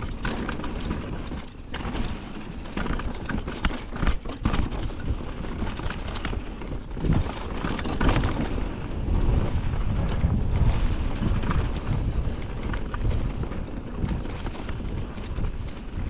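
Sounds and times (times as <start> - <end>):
mountain bike rattling on trail: 0.0 - 16.0
wind buffeting microphone: 0.0 - 16.0.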